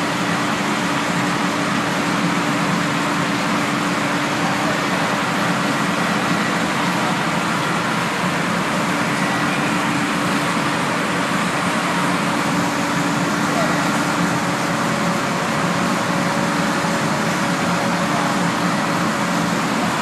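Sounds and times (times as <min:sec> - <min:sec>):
recycling plant machinery running: 0:00.0 - 0:20.0.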